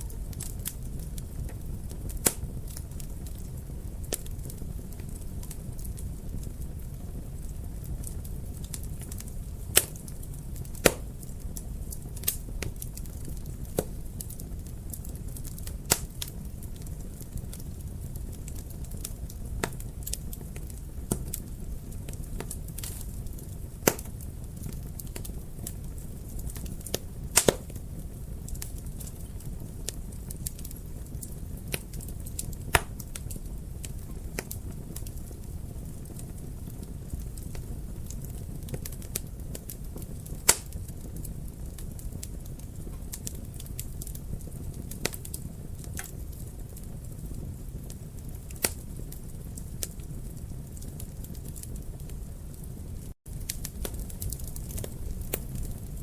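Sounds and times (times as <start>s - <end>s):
sharp pops of fire: 0.0s - 52.6s, 53.3s - 56.0s
wood fire crackling: 0.0s - 56.0s.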